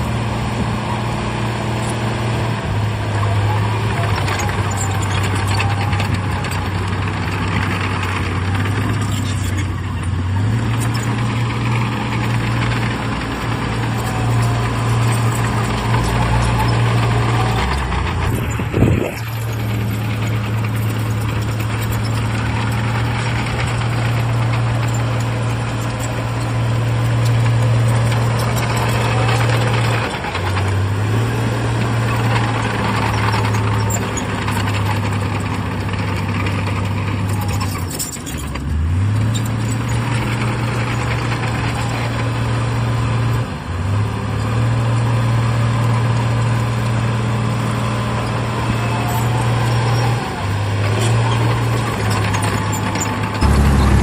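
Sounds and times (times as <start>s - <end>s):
heavy diesel engine under load: 0.0s - 54.0s.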